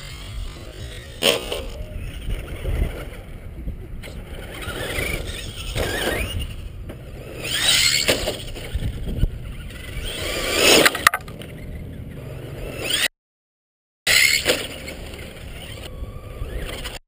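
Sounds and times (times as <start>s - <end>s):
rc truck motor whining past: 0.0s - 13.1s, 14.1s - 17.0s.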